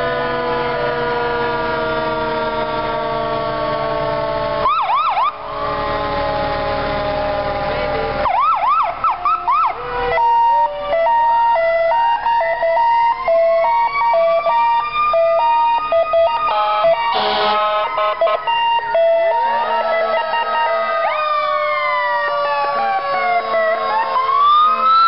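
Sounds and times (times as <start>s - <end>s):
fire truck sirens wailing: 0.0s - 25.0s
siren rising in pitch: 0.0s - 25.0s.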